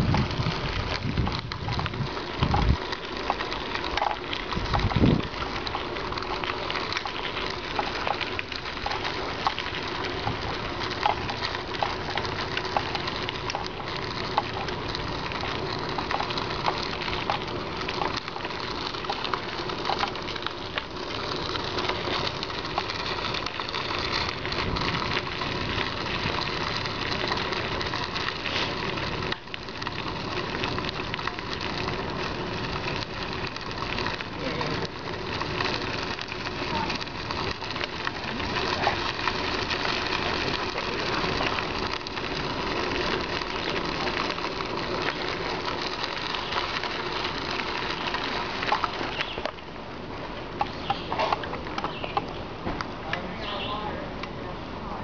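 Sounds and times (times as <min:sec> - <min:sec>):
small clicks and rattles: 0:00.0 - 0:49.7
bicycle tyres rolling: 0:00.0 - 0:55.0.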